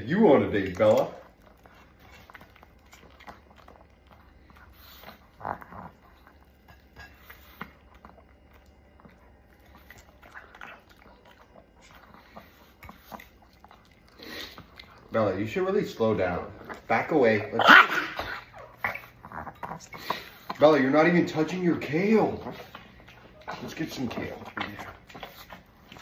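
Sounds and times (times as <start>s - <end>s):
dog chewing and biting: 0.0s - 26.0s.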